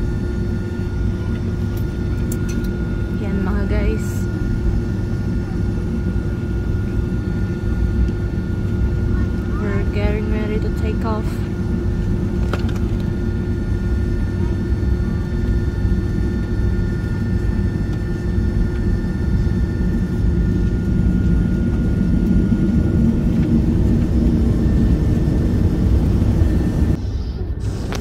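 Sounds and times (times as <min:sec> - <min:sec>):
jet engines humming: 0:00.0 - 0:28.0.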